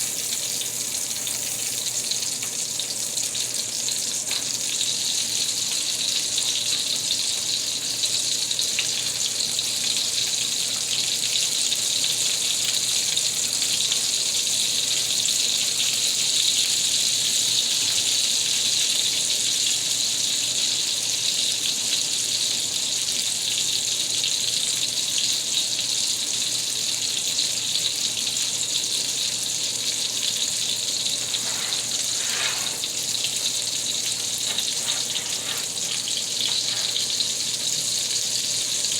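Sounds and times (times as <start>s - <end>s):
patties sizzling in a pan: 0.0s - 38.9s.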